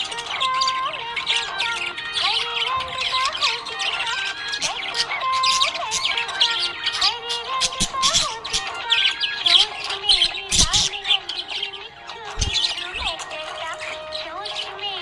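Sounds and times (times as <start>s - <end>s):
background song: 0.0s - 15.0s
budgies chirping: 0.0s - 15.0s.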